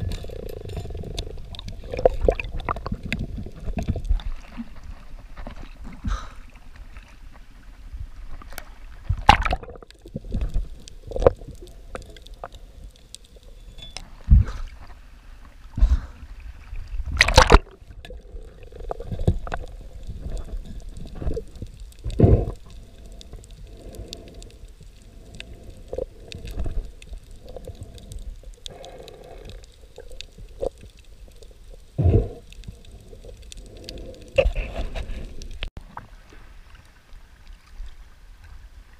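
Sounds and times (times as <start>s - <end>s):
water sloshing and bubbling: 0.0s - 38.9s.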